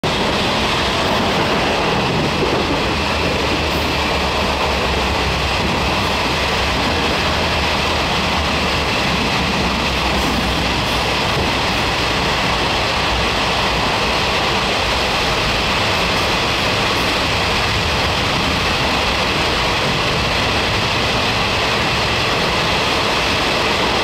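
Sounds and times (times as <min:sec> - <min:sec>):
train running on tracks: 0:00.0 - 0:24.0.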